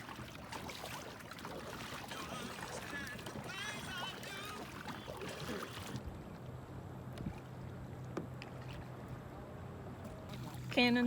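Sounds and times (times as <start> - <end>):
water lapping: 0.0 - 9.3, 10.3 - 11.0
boat engine hum: 0.0 - 11.0.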